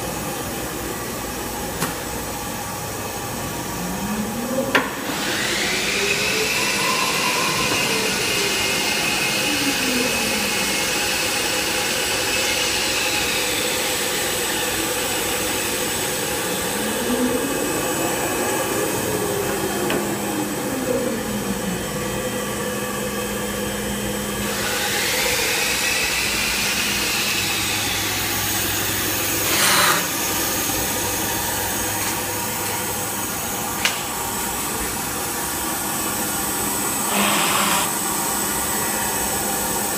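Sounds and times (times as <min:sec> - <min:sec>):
motor whines sweeping in pitch: 0:03.0 - 0:39.9
router spindle whine: 0:03.0 - 0:39.9.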